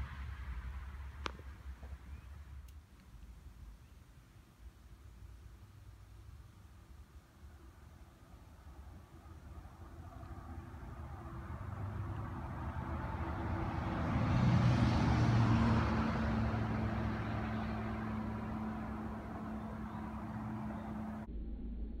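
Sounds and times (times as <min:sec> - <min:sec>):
passing vehicle engine rumble: 0:00.0 - 0:04.0, 0:04.8 - 0:21.3.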